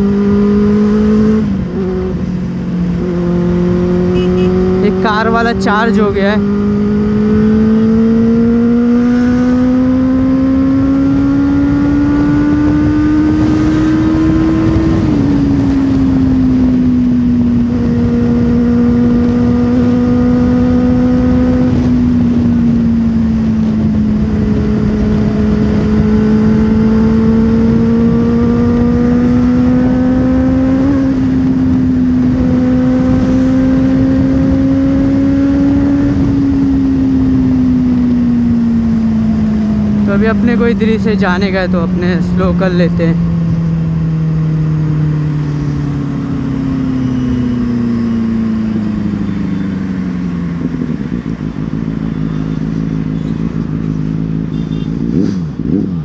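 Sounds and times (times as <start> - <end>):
wind rushing over microphone: 0.0 - 49.2
motorcycle engine pulling hard: 0.0 - 56.0.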